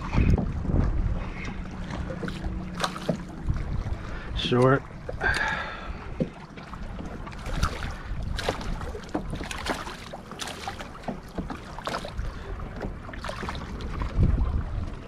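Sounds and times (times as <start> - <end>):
low wind rumble: 0.0 - 15.0
water splashing against kayak hull: 0.0 - 15.0.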